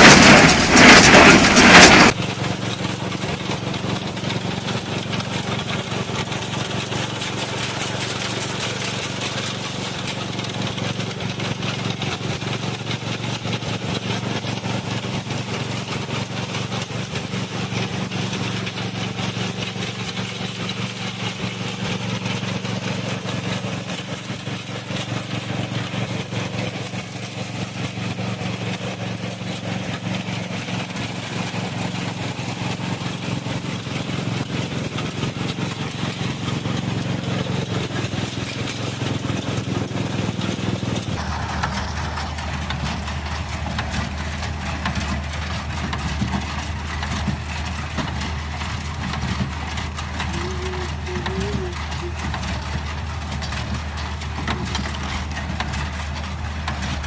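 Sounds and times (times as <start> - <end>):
hay baler working: 0.0 - 57.0
tractor engine running: 0.0 - 57.0.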